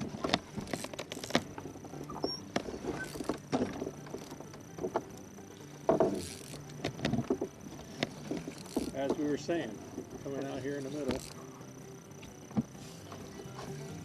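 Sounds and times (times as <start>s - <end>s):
fishing gear knocking and clattering: 0.0s - 11.6s.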